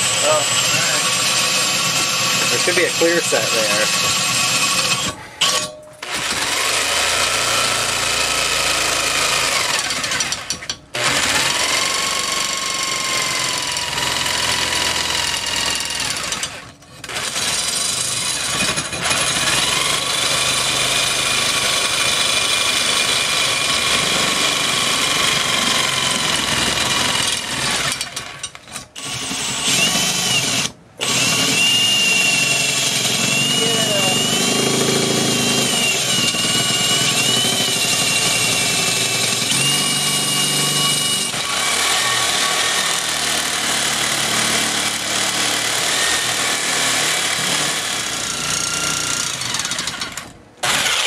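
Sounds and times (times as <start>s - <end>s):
cordless drill boring into metal: 0.0s - 51.0s
jigsaw cutting metal: 0.0s - 51.0s.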